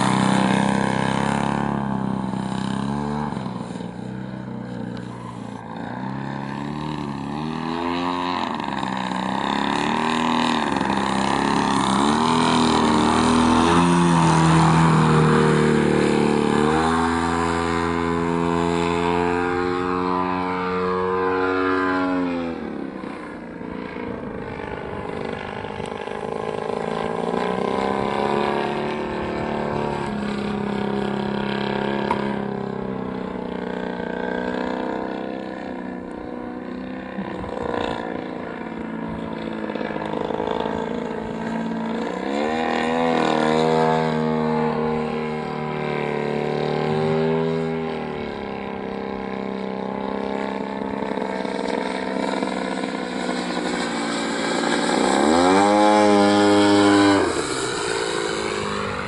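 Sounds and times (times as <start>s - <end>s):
model plane engine and propeller: 0.0s - 59.0s.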